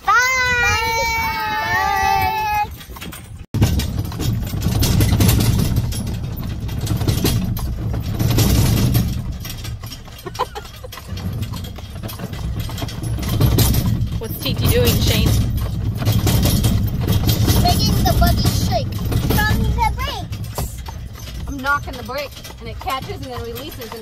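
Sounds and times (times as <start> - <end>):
horse-drawn cart rumbling: 0.0 - 24.0.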